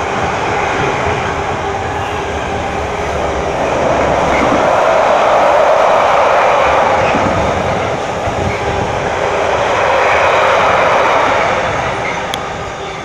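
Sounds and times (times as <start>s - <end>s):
freight train wheels on rail: 0.0s - 13.0s.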